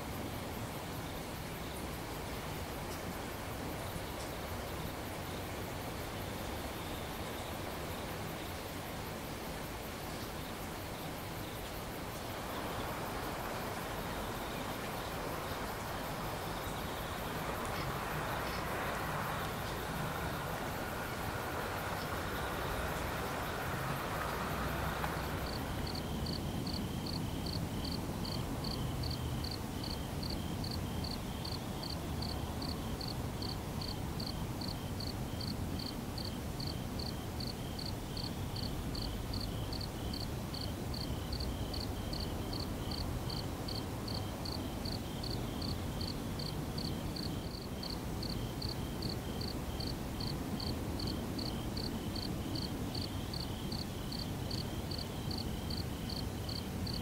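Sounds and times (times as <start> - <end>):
insect chirping: 0.0 - 57.0
low background noise: 0.0 - 57.0.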